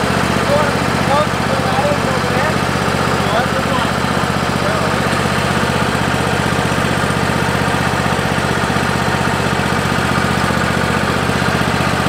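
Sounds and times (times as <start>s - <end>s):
petrol engine idling: 0.0s - 12.0s.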